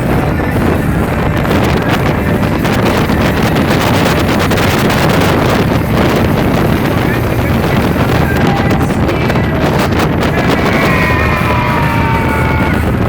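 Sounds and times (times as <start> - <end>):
speedboat engine roar: 0.0 - 13.0
wind buffeting microphone: 0.0 - 13.0.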